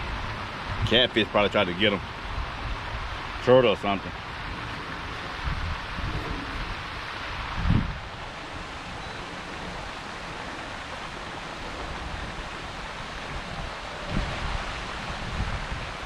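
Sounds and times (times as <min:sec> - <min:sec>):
fountain spraying water: 0:00.0 - 0:16.0.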